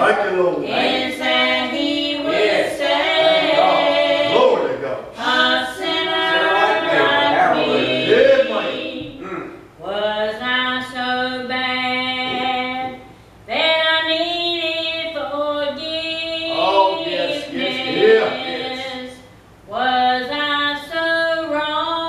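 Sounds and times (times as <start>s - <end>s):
women singing gospel: 0.0s - 22.0s.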